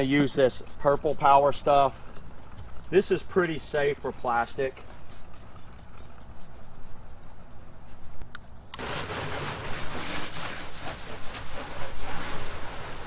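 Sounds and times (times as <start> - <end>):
spray hissing on plastic hull: 0.0 - 13.0.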